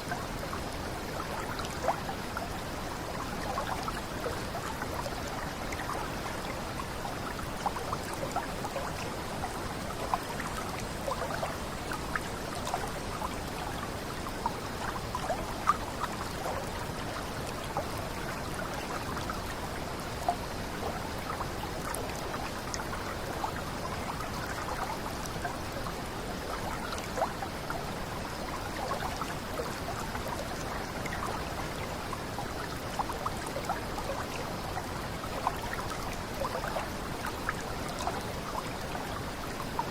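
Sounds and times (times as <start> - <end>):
water drips and plinks: 0.0 - 39.9.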